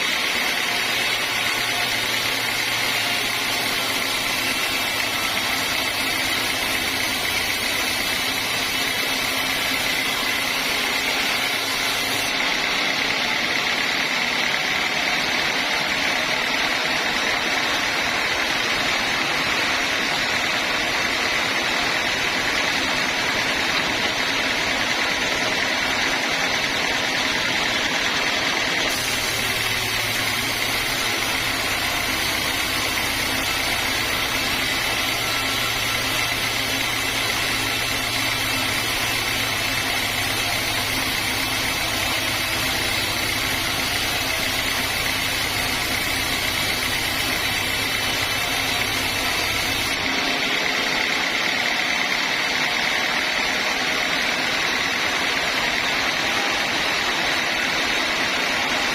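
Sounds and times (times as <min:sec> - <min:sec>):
sawmill machinery hissing: 0:00.0 - 0:58.9.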